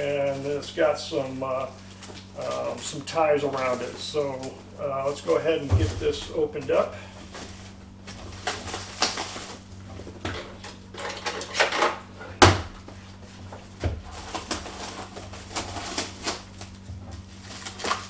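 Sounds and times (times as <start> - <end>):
cellophane crinkling and tearing: 0.0 - 11.6, 13.6 - 18.0.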